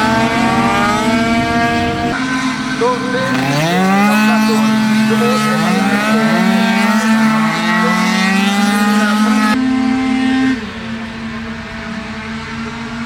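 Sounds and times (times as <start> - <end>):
scooter engine revving: 0.0 - 13.0.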